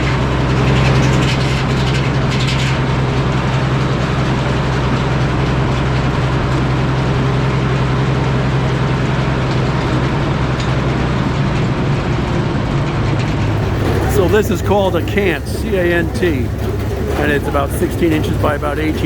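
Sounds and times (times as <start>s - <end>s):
sawmill droning: 0.0s - 19.0s.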